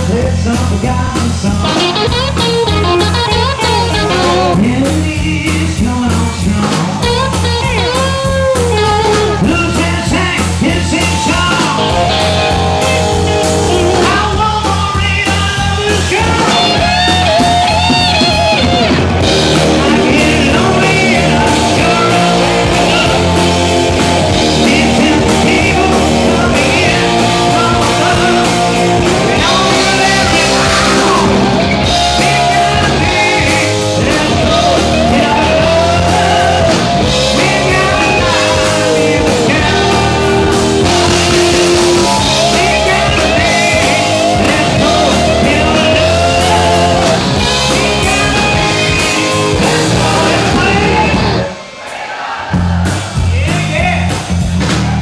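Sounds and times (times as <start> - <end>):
bass guitar: 0.0 - 51.6, 52.4 - 55.0
electric guitar: 0.0 - 51.8
live rock band playing: 0.0 - 55.0.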